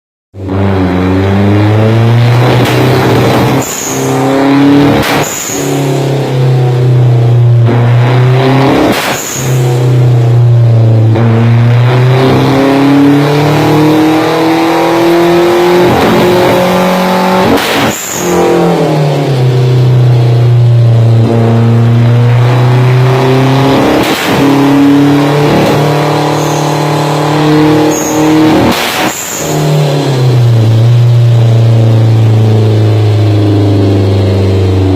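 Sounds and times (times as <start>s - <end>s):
car engine revving: 0.4s - 34.9s.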